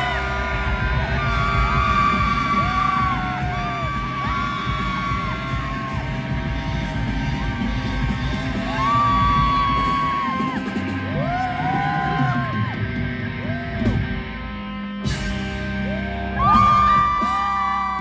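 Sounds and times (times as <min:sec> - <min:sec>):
crowd yelling and whooping: 0:00.0 - 0:14.4, 0:15.5 - 0:18.0
live rock band playing: 0:00.0 - 0:18.0.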